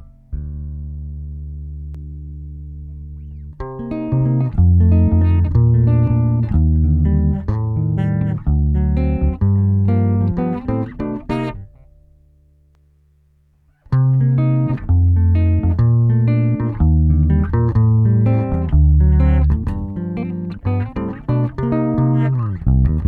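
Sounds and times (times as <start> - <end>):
electric bass guitar plucked: 0.0 - 12.6, 13.8 - 23.0.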